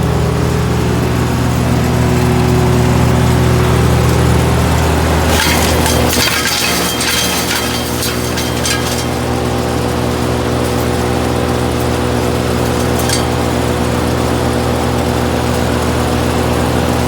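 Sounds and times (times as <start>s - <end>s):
wood chipper engine humming: 2.3s - 17.0s.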